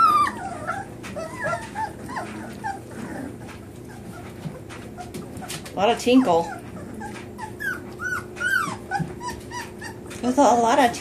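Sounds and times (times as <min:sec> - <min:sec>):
puppies whimpering and whining: 0:00.0 - 0:11.0.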